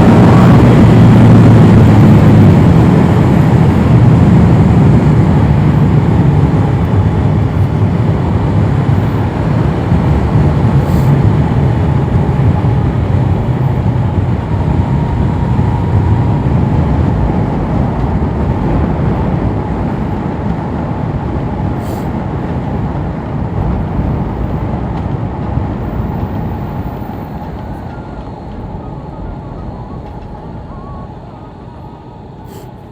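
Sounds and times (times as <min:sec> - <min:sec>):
motorcycle engine: 0:00.0 - 0:32.9
road noise: 0:00.0 - 0:32.9
wind rushing over motorcycle: 0:00.0 - 0:32.9.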